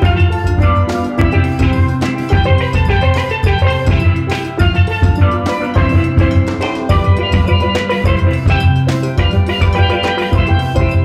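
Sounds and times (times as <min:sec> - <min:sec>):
music with bass beat: 0:00.0 - 0:11.0.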